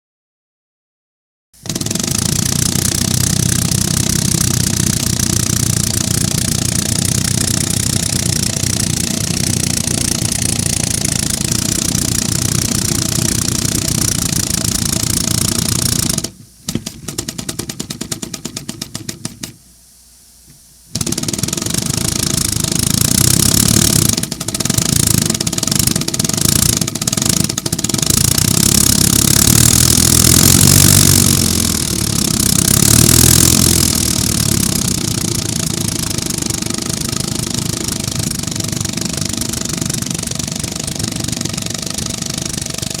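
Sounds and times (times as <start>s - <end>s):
air engine hissing and clattering: 1.6s - 43.0s.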